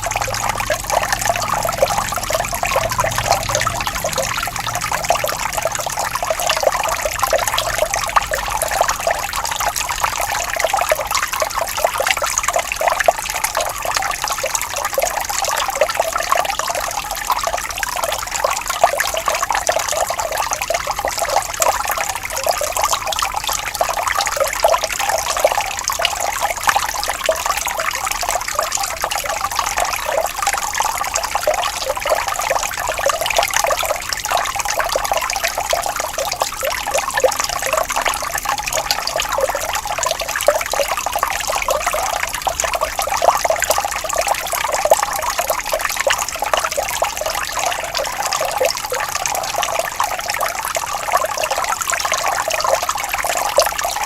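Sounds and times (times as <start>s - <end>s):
water flowing over stones: 0.0s - 54.0s.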